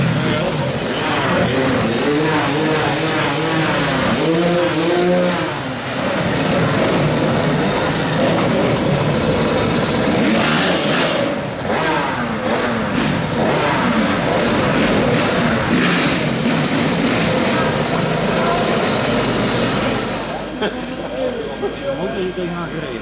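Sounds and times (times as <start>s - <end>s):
dirt bike engines revving: 0.0s - 22.3s.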